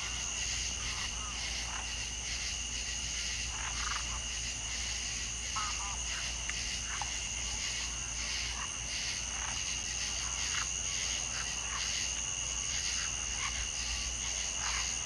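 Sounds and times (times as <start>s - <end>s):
frogs and insects trilling: 0.0s - 15.0s.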